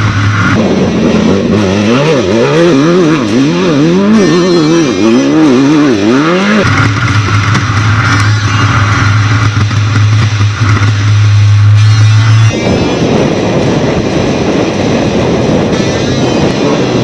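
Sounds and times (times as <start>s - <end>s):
race vehicle engine revving: 0.0s - 17.0s.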